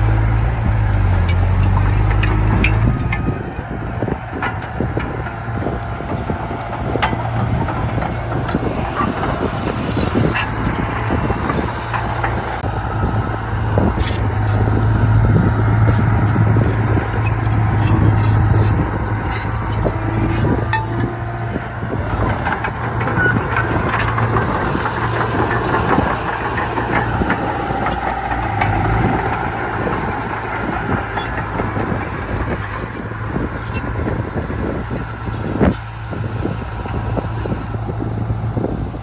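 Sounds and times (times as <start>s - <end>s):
bulldozer diesel engine running: 0.0s - 39.0s
small metallic clanks: 0.1s - 3.4s, 4.0s - 12.6s, 14.0s - 35.9s.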